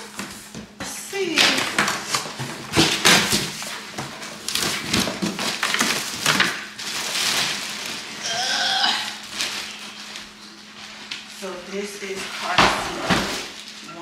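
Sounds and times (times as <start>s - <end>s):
cardboard and plastic rustling: 0.0s - 8.5s, 9.1s - 14.0s.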